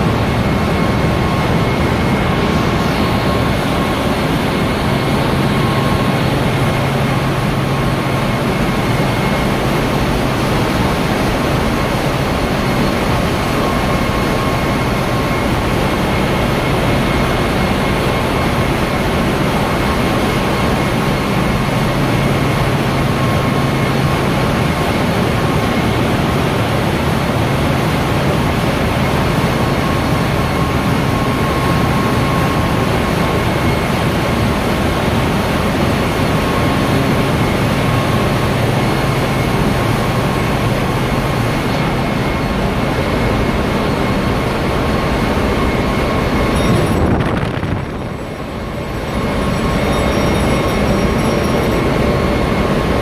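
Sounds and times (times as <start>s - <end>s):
engine-room machinery din: 0.0s - 53.0s.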